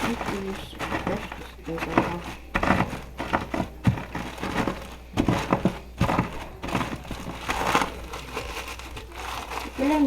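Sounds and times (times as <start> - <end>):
cookies being crushed: 0.0 - 10.0
plastic bag crinkling: 0.0 - 10.0.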